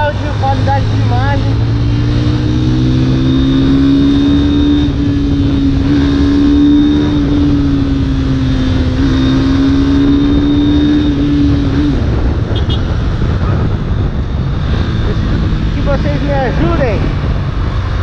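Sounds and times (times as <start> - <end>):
motorcycle engine running: 0.0 - 18.0
road noise: 0.0 - 18.0
wind rushing: 0.0 - 18.0.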